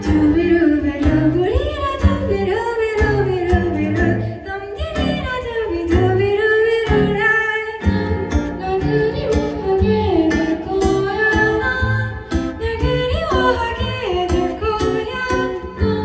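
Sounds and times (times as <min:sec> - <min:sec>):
acoustic guitar: 0:00.0 - 0:16.0
woman singing: 0:00.0 - 0:16.0.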